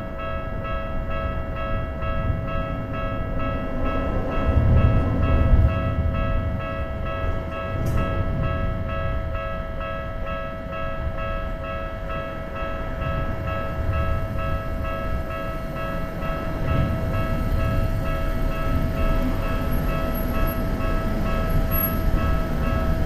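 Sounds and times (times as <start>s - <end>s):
level-crossing alarm bell: 0.0s - 23.0s
train rumble: 0.0s - 23.0s.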